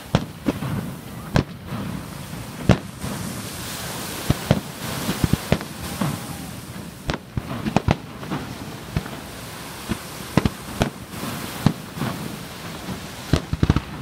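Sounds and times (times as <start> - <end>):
fireworks bursting with sharp bangs: 0.0 - 14.0
steady background hiss: 0.0 - 14.0.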